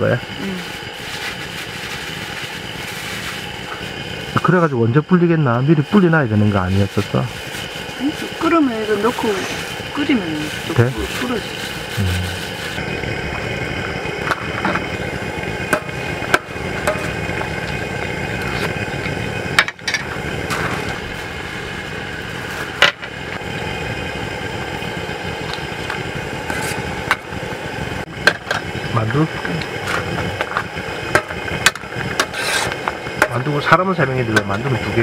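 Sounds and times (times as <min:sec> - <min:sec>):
gas stove burner running: 0:00.0 - 0:35.0
pot boiling and foaming: 0:00.0 - 0:35.0.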